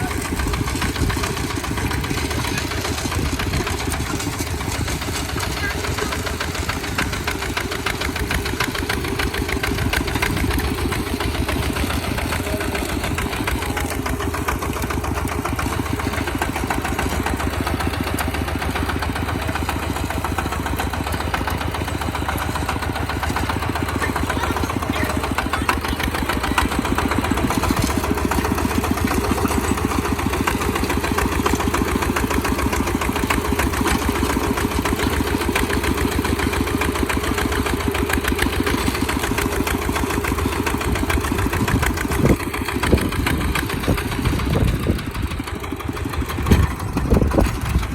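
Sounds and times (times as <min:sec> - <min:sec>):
tractor engine chugging: 0:00.0 - 0:47.9.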